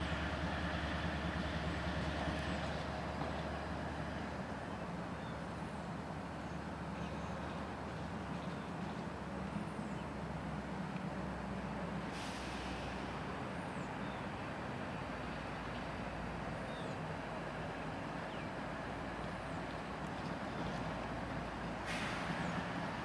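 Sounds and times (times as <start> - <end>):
diesel locomotive engine humming: 0.0 - 6.4, 10.4 - 23.0.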